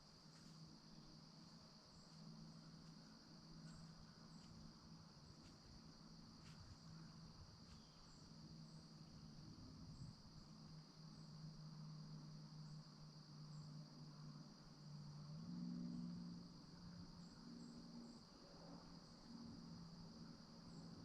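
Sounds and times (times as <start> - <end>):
insect chorus drone: 0.0 - 21.0.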